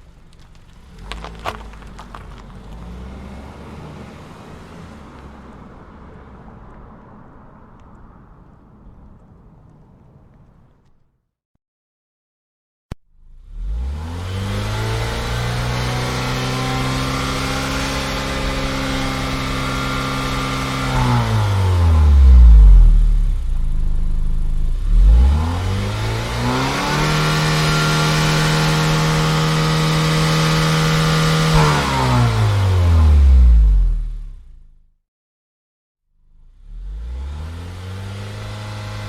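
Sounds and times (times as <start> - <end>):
car engine revs: 0.0 - 7.2, 13.2 - 34.8, 36.3 - 39.0.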